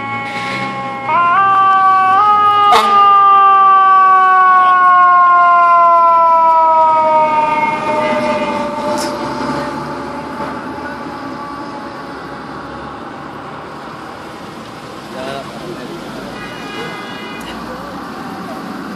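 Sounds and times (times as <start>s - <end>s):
fire engine and road noise: 0.0s - 18.9s
fire engine siren wail: 0.0s - 18.9s.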